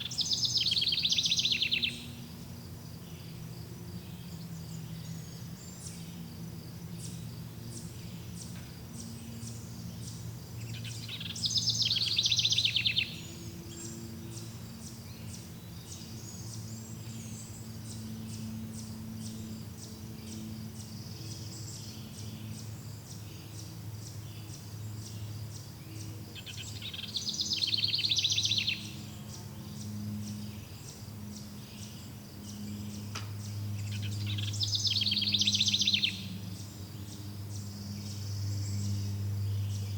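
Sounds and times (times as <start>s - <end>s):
bird trilled songs: 0.0s - 39.9s
insects chirring: 0.0s - 39.9s
low steady hum: 0.0s - 39.9s.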